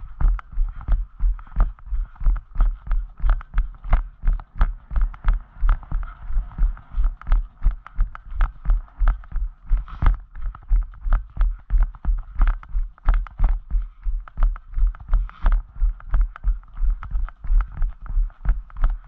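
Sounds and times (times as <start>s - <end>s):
horse hoofbeats: 0.0s - 19.0s.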